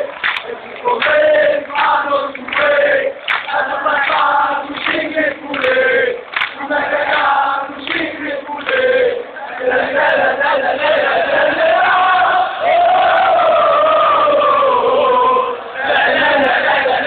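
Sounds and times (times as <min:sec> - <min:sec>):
crowd chanting: 0:00.0 - 0:17.0.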